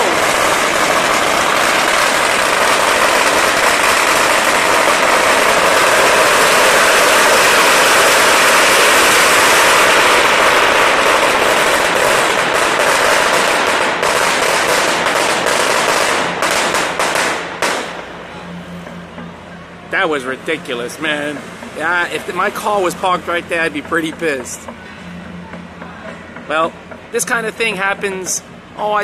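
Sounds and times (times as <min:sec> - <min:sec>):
firecrackers banging: 0:00.0 - 0:29.0.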